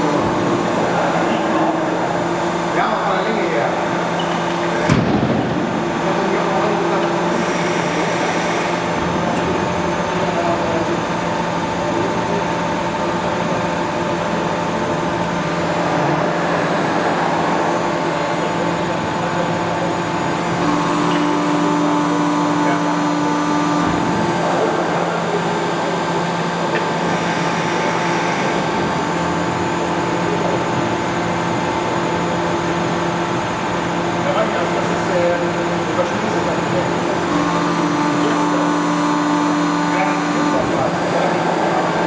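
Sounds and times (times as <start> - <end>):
hydraulic press machine hum: 0.0 - 42.0.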